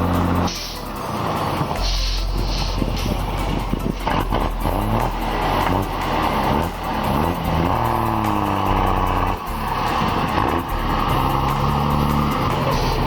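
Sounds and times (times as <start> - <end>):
truck engine straining: 0.0 - 13.0.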